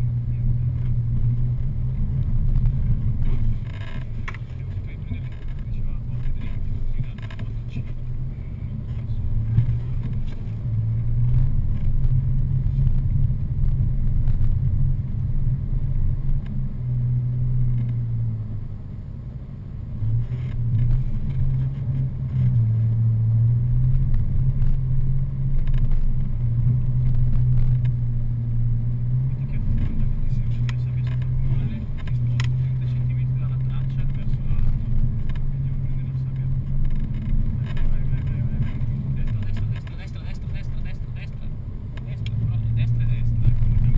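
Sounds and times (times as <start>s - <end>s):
car engine drone from inside: 0.0s - 43.9s.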